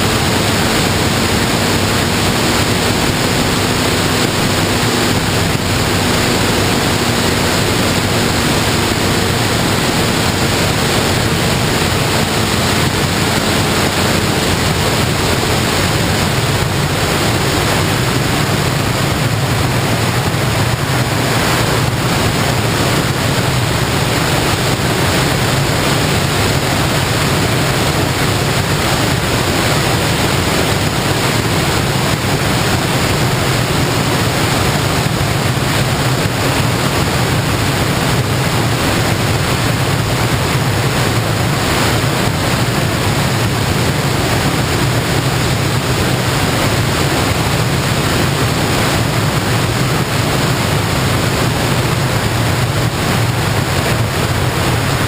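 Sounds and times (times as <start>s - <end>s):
low drone: 0.0s - 55.0s
wind rushing on microphone: 0.0s - 55.0s.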